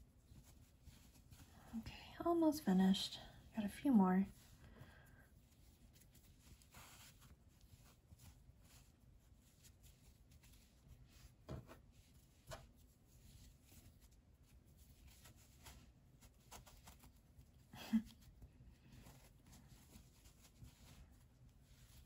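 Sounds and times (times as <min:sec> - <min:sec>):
rustle of hands working yarn: 0:00.0 - 0:22.0.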